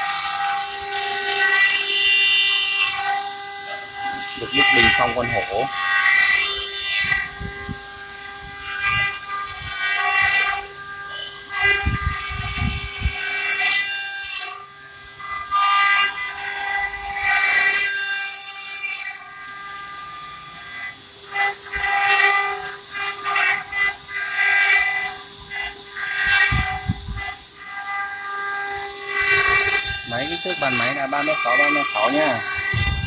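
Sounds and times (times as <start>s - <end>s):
cutting bits screeching on stone: 0.0s - 33.0s
high spindle whine: 0.0s - 33.0s.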